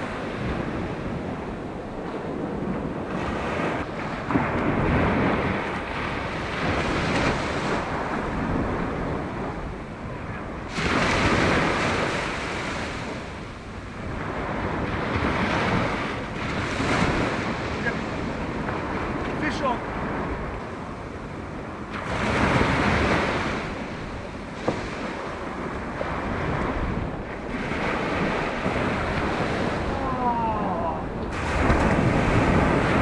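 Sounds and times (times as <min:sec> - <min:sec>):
surf washing onto beach: 0:00.0 - 0:33.0
wind buffeting microphone: 0:00.0 - 0:33.0.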